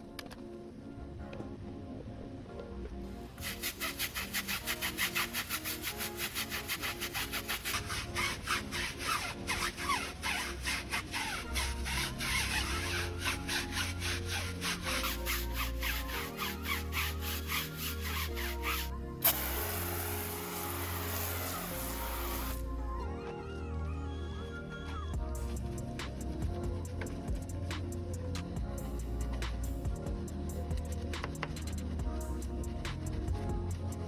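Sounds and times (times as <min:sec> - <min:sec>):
background music: 0:00.0 - 0:34.0
brush scrubbing: 0:03.3 - 0:22.7, 0:25.2 - 0:34.0.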